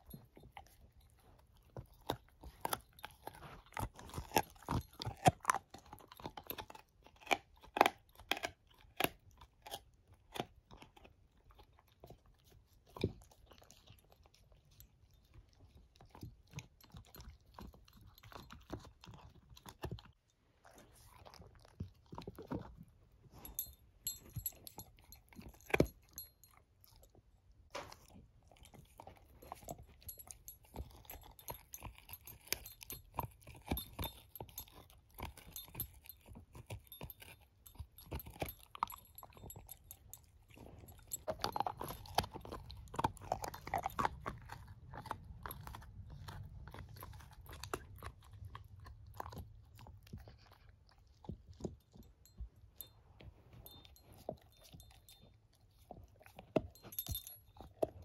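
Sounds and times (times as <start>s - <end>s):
puppy chewing a bone: 0.0s - 58.0s.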